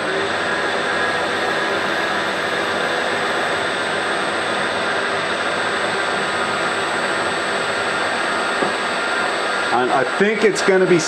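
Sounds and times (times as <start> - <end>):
milling machine whine: 0.0 - 11.0.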